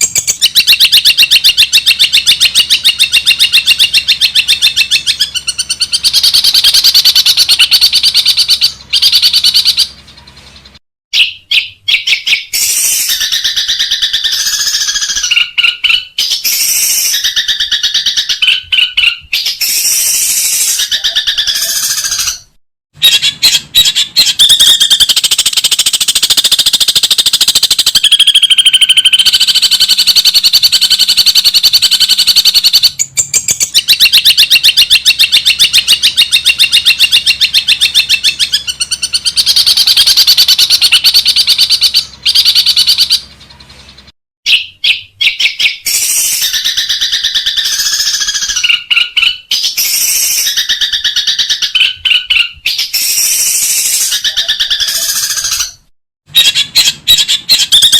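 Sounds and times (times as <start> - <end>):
bird chattering song: 0.0 - 57.9.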